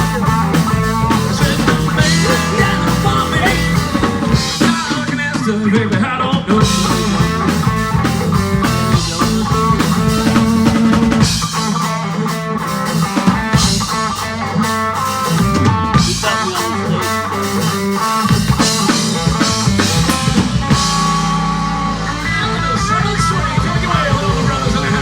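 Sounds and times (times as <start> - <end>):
bass guitar: 0.0 - 25.0
drum kit snare and rimshots: 0.0 - 25.0
electric guitar: 0.0 - 25.0.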